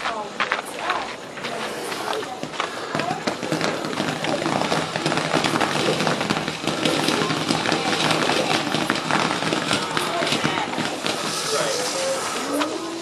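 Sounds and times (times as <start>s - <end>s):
firework hissing and crackling: 0.0s - 13.0s.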